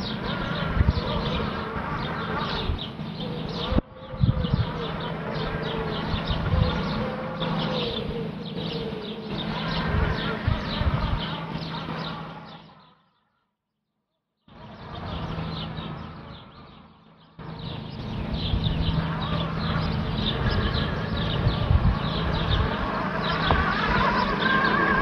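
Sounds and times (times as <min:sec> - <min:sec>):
robotic lawnmower motor hum: 0:00.0 - 0:13.0, 0:14.6 - 0:25.0.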